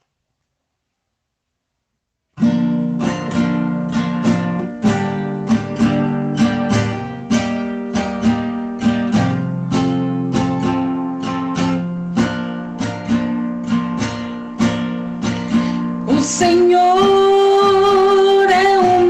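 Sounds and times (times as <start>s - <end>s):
acoustic guitar strumming chords: 2.4s - 19.0s.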